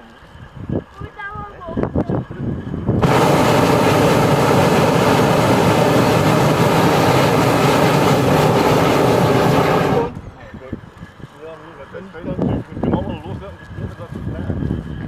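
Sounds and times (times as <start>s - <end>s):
propane burner roaring: 1.4s - 15.0s.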